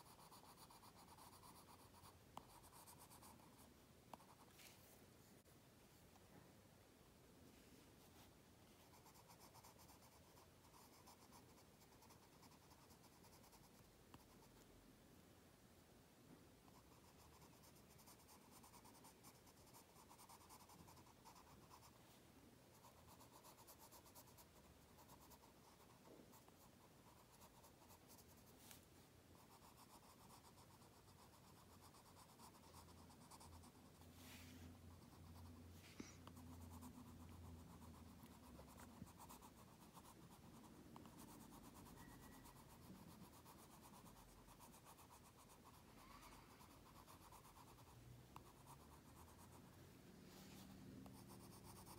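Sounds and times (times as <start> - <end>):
colored pencil scratching on card: 0.0 - 4.8, 8.8 - 14.6, 16.7 - 22.0, 22.7 - 28.8, 29.4 - 49.7, 50.4 - 51.9.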